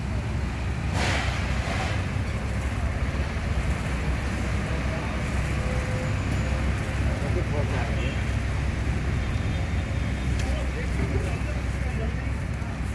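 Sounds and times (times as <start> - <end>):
outdoor street noise: 0.0 - 12.9
vehicle engines rumbling: 0.0 - 12.9.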